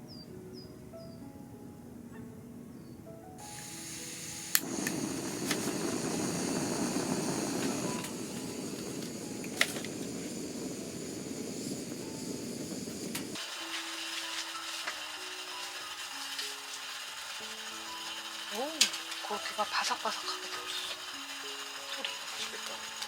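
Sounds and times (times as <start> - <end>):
meat sizzling in a pan: 3.4 - 23.0.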